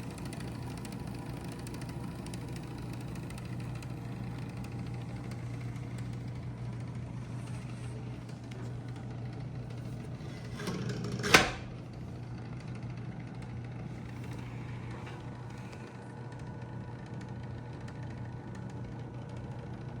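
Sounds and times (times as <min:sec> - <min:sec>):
electric typewriter motor hum: 0:00.0 - 0:19.6.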